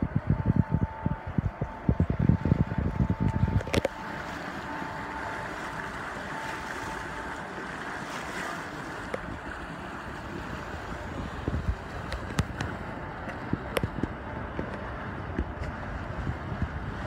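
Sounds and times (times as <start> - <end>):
bow wave splashing along hull: 0.0 - 17.0.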